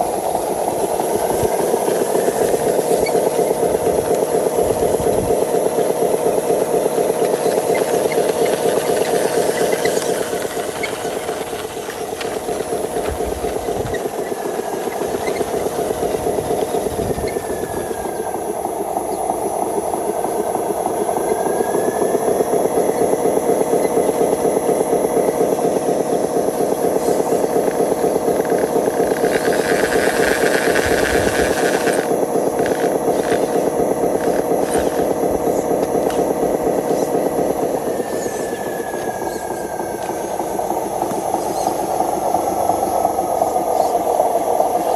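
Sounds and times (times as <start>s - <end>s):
toy truck motor pulsing: 0.0s - 44.9s.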